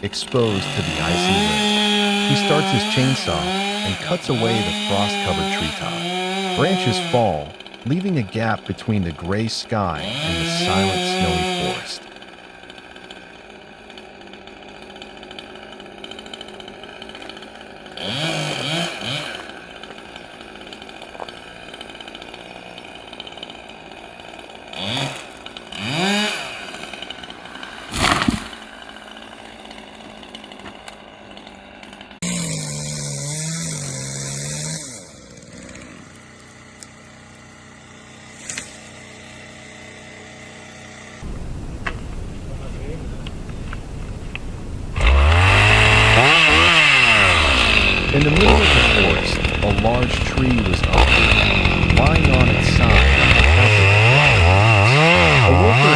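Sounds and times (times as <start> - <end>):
chainsaw revving: 0.0 - 41.4, 44.9 - 55.9.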